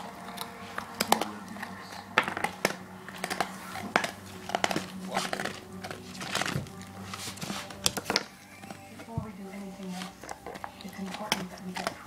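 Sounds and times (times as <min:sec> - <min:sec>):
low steady hum: 0:00.0 - 0:12.0
rabbit gnawing on a bone: 0:00.0 - 0:12.0.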